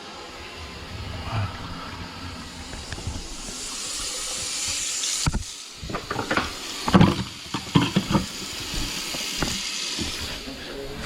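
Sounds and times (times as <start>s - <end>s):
water running: 0.0s - 11.0s.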